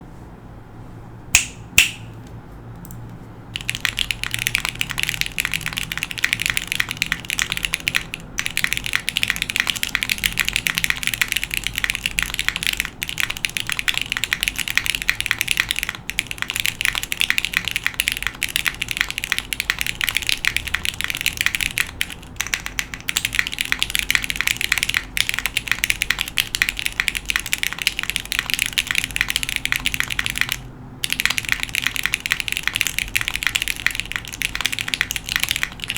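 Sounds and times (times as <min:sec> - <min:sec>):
mechanical keyboard typing: 0:03.6 - 0:35.9.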